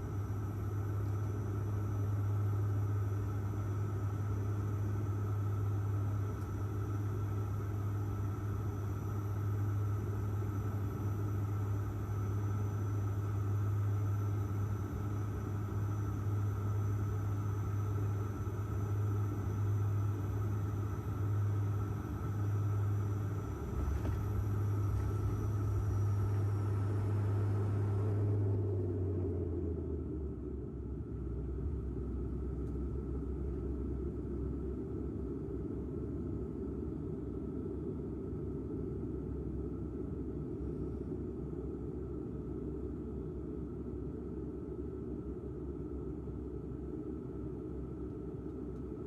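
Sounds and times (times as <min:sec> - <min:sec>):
airliner engines droning in cabin: 0:00.0 - 0:49.0.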